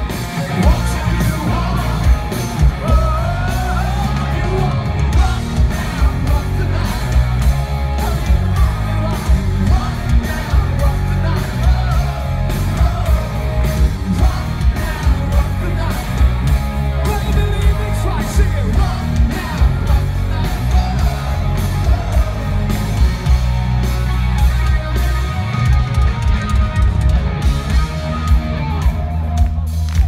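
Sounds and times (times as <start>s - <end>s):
bass: 0.0s - 30.0s
drums: 0.0s - 30.0s
electric guitar: 0.0s - 30.0s.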